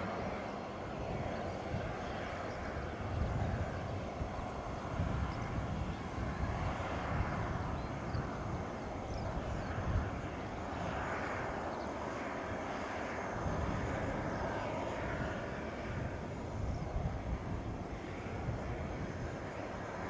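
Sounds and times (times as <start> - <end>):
jet taxiing: 0.0 - 20.0.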